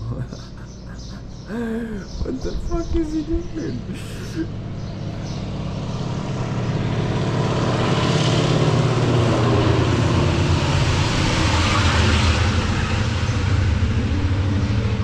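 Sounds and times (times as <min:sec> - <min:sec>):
propeller plane flying overhead: 0:00.0 - 0:15.0.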